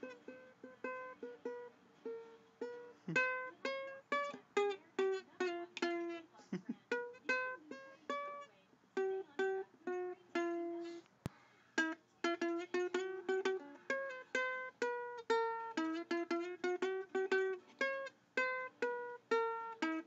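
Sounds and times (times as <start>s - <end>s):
plucked-string tune: 0.0s - 11.0s, 11.7s - 20.0s.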